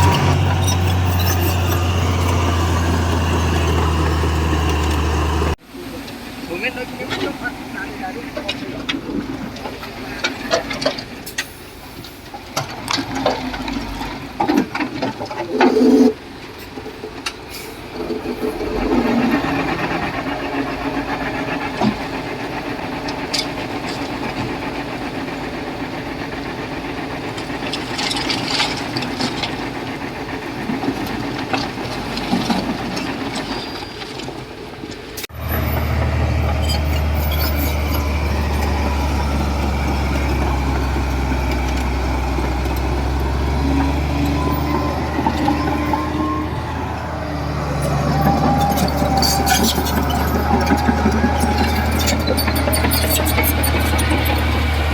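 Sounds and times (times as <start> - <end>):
construction machinery diesel engine: 0.0 - 54.9.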